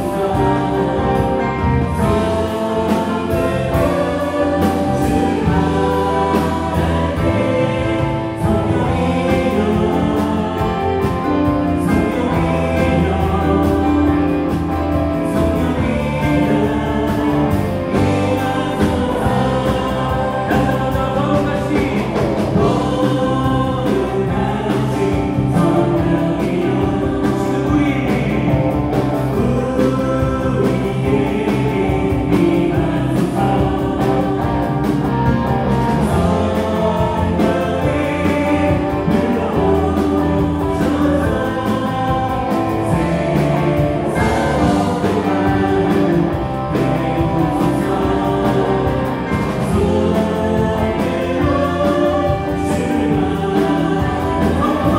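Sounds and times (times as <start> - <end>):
voices singing along: 0.0 - 54.9
worship band playing: 0.0 - 54.9.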